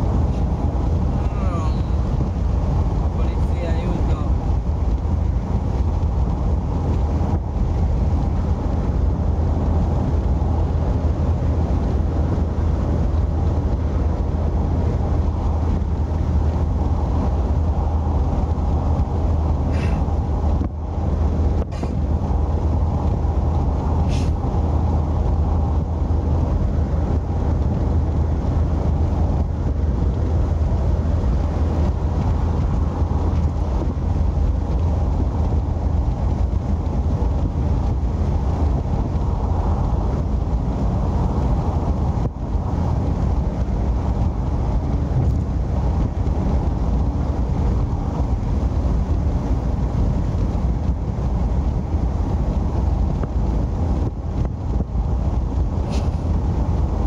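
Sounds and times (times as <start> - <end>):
deep low drone: 0.0 - 57.0
road and wind noise: 0.0 - 57.0.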